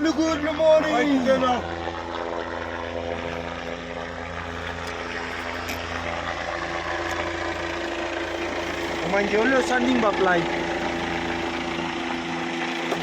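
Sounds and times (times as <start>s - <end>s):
helicopter engine and rotors: 0.0s - 13.0s.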